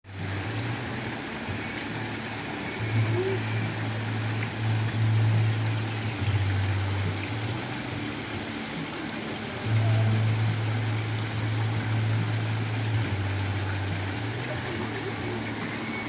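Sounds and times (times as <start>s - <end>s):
waterfall rushing: 0.1s - 16.0s.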